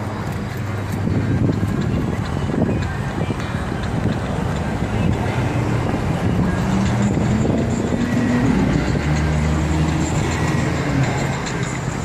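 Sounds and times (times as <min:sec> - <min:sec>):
street traffic noise: 0:00.0 - 0:12.0
vehicle engine rumbling: 0:00.0 - 0:12.0.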